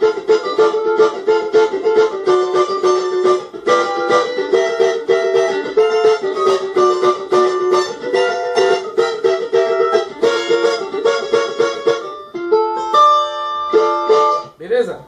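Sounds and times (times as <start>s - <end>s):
electric cavaquinho strumming: 0.0s - 14.7s.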